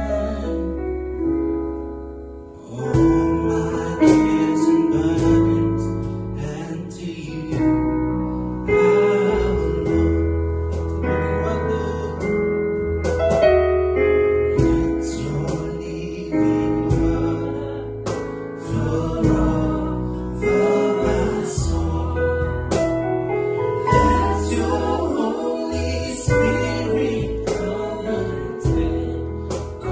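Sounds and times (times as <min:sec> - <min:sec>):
person singing: 0:00.0 - 0:00.9, 0:02.6 - 0:07.8, 0:08.7 - 0:12.6, 0:14.5 - 0:29.9
bass guitar: 0:00.0 - 0:29.9
keyboard chords: 0:00.0 - 0:29.9.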